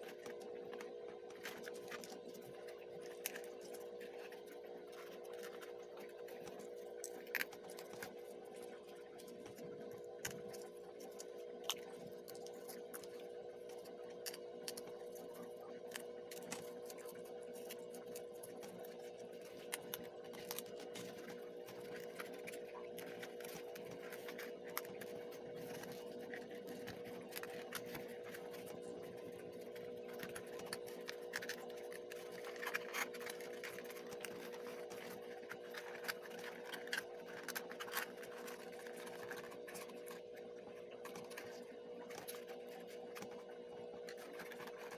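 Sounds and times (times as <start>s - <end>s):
cardboard pieces clicking and scraping: 0.0s - 44.9s
steady low hum: 0.0s - 44.9s.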